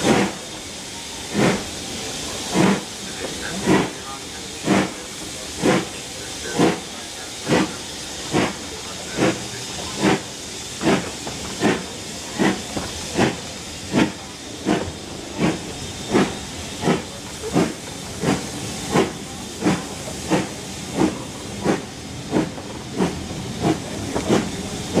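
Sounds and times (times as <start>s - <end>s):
steady steam hiss: 0.0s - 25.0s
steam locomotive exhaust beats: 0.0s - 25.0s.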